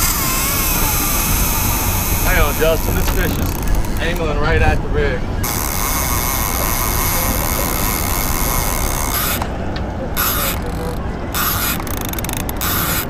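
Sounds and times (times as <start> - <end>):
fishing reel ratchet clicking: 0.0 - 4.1, 5.4 - 9.5, 10.2 - 13.0.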